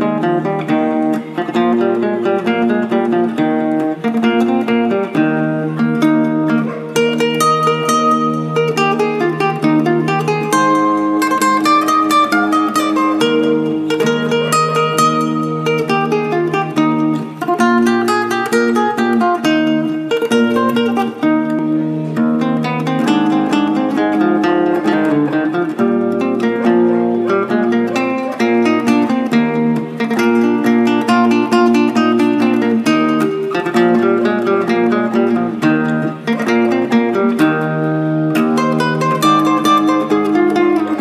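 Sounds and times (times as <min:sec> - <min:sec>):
acoustic guitar picking melody: 0:00.0 - 0:41.0.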